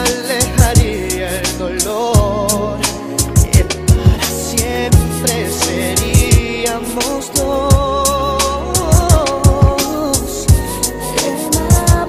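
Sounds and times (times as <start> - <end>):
drum beat: 0.0 - 2.6, 3.2 - 12.0
bass line: 0.0 - 12.0
person singing: 0.0 - 12.0.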